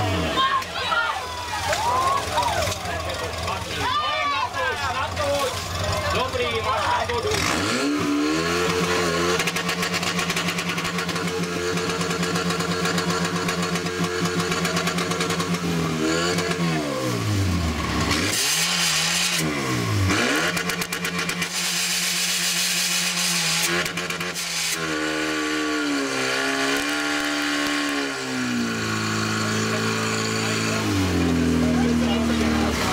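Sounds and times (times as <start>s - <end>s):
pump engine running hard: 5.0s - 32.9s.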